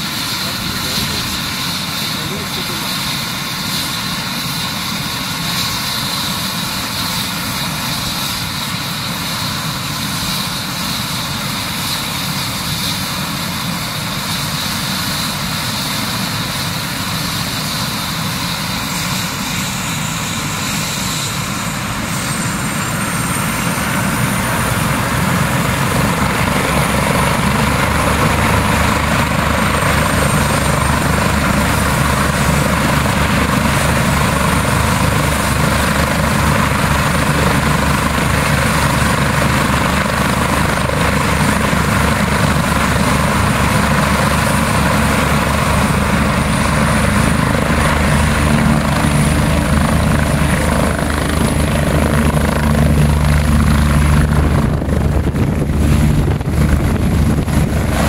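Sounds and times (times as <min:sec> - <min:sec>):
helicopter turbine whine: 0:00.0 - 0:58.0.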